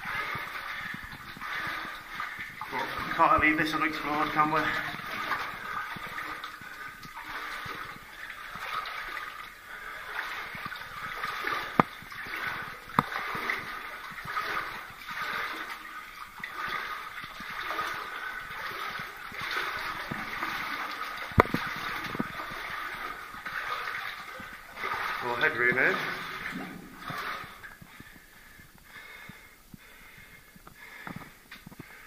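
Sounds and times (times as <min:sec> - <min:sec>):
wading steps splashing in water: 0:00.0 - 0:32.0.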